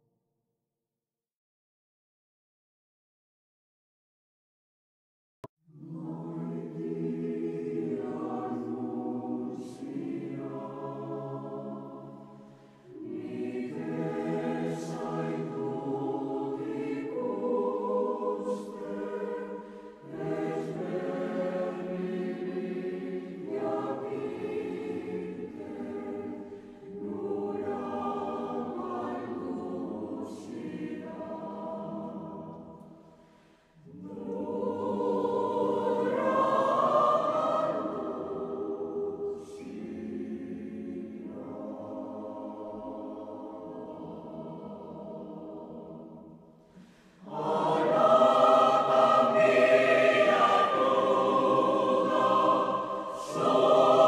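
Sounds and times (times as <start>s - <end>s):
choir singing sustained chords: 5.7s - 54.0s.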